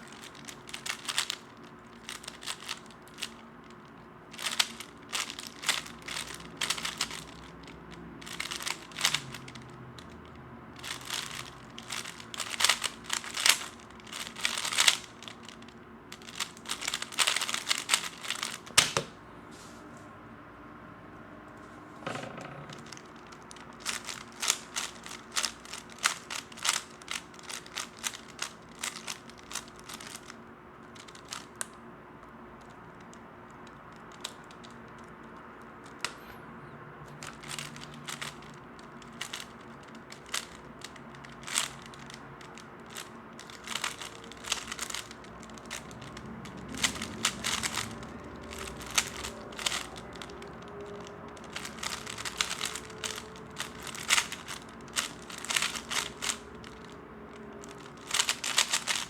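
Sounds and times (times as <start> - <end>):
puzzle cube plastic clicking: 0.0 - 19.1, 22.2 - 30.4, 31.0 - 31.8, 33.6 - 36.3, 37.1 - 59.0.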